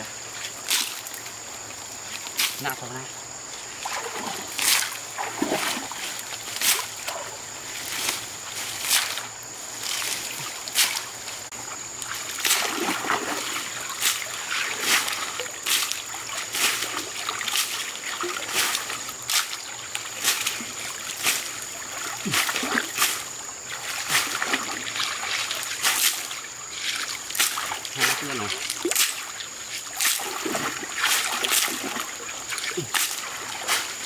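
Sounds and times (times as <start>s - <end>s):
water splashes: 0.0s - 34.0s.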